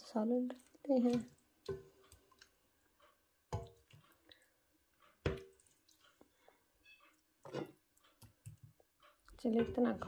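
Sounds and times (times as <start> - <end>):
soft wet curry sounds: 0.0 - 10.0.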